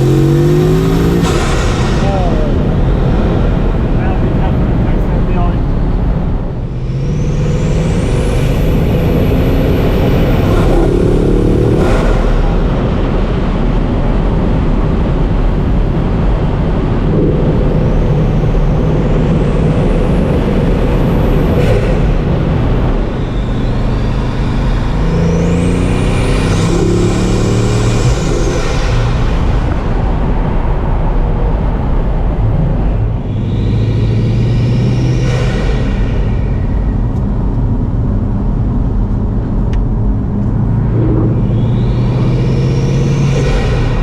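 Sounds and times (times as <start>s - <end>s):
car engine accelerating hard: 0.0s - 44.0s
high whine climbing: 0.0s - 44.0s.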